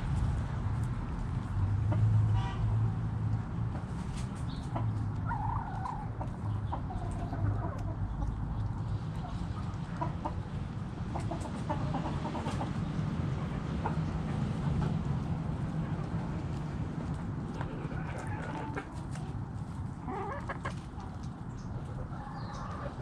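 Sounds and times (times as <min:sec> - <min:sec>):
hens clucking: 0:03.8 - 0:23.0.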